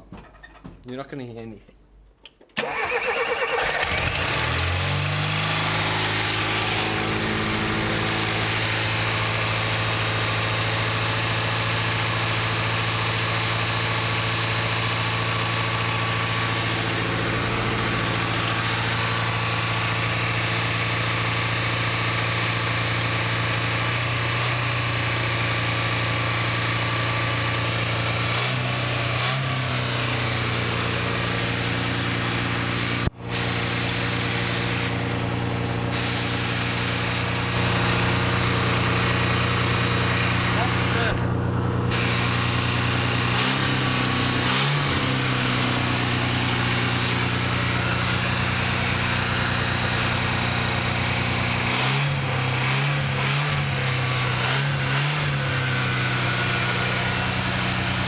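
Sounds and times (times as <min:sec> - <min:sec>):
car engine idling: 0:03.4 - 0:58.0.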